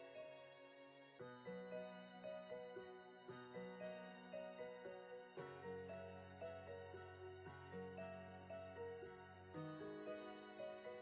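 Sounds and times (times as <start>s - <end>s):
gentle background music: 0.0s - 11.0s
light high tinkles: 0.0s - 11.0s.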